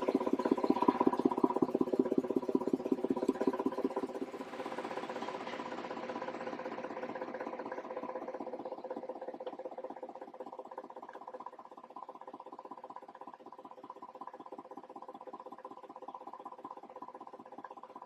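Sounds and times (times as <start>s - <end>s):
engine running with rapid pulse: 0.0s - 18.0s.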